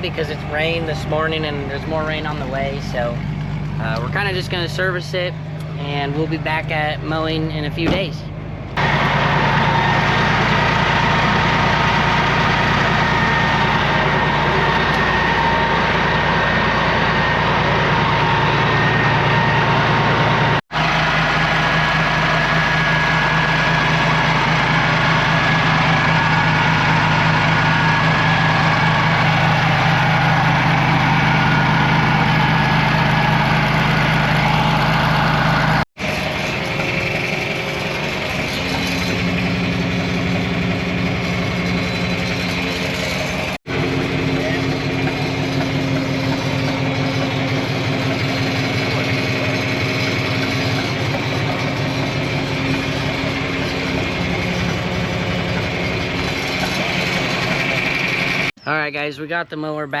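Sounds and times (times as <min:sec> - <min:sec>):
tractor engine running: 0:00.0 - 0:58.7.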